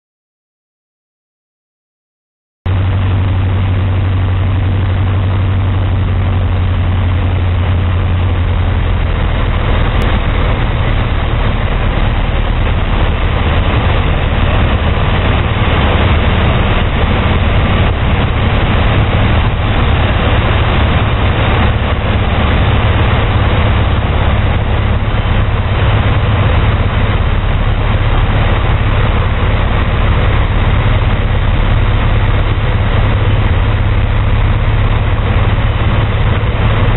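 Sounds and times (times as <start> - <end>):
propeller aircraft engine droning: 2.7 - 36.9
wind noise: 2.7 - 36.9.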